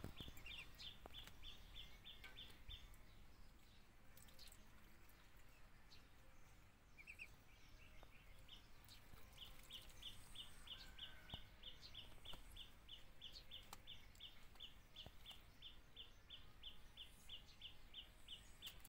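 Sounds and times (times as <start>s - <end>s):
bird chirping: 0.0s - 18.9s
farmyard ambience: 0.0s - 18.9s.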